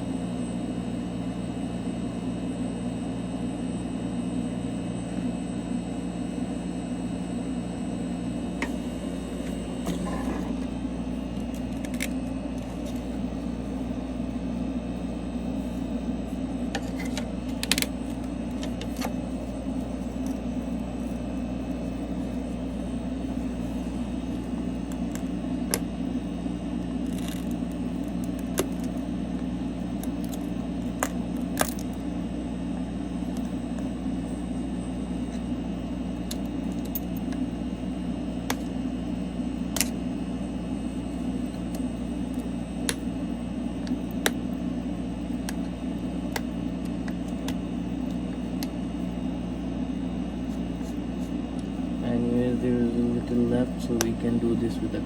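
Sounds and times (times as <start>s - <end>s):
electrical machine hum: 0.0s - 55.0s.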